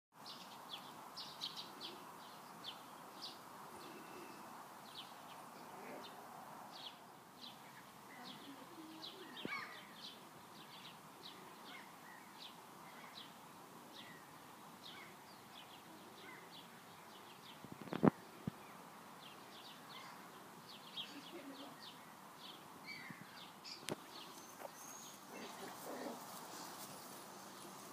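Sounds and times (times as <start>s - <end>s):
faint outdoor background: 0.1s - 27.9s
birds chirping: 0.2s - 27.9s.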